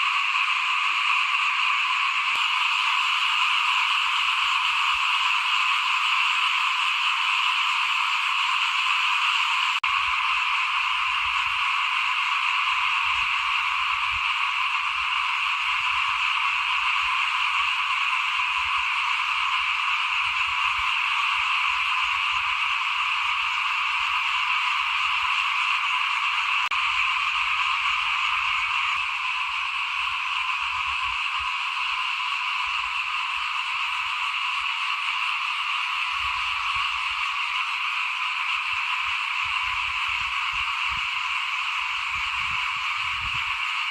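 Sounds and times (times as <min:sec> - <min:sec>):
chorus of frogs calling: 0:00.0 - 0:43.9.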